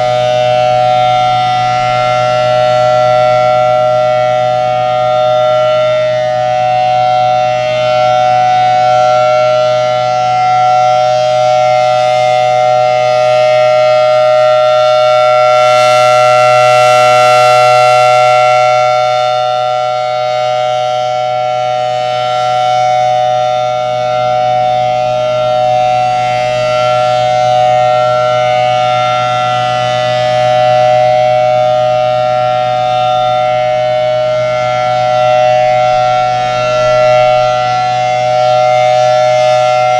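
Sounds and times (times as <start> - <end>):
tornado siren steady tone: 0.0 - 39.9.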